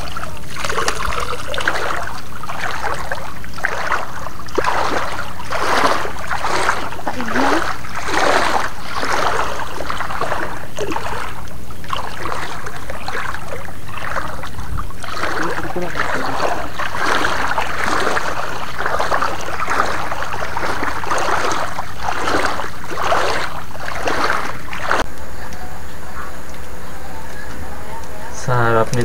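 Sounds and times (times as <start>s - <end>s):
feet wading through water: 0.0s - 25.1s
steady low rumble: 0.0s - 29.0s.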